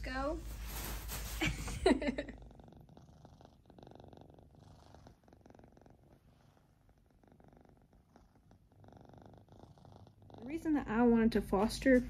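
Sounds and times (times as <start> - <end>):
kitten purring: 1.7 - 11.4.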